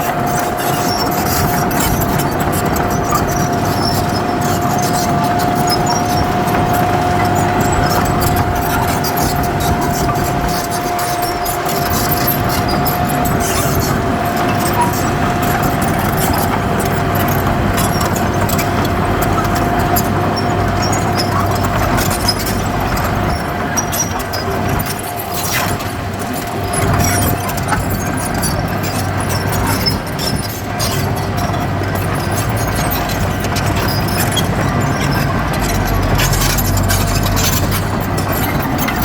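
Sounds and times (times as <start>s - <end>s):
clicks and clanks: 0.0s - 39.0s
heavy diesel machinery running: 0.0s - 39.0s
machine whine: 0.0s - 39.0s.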